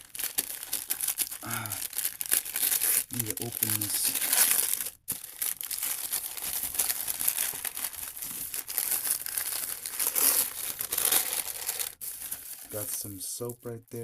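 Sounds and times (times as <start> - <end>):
wrapping paper crinkling and tearing: 0.0 - 14.0.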